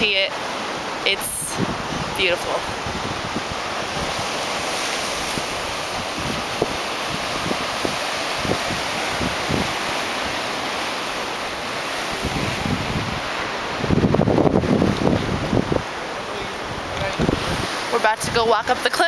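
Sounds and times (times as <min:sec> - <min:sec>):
surf breaking over rocks: 0:00.3 - 0:19.0
wind buffeting microphone: 0:01.4 - 0:18.8.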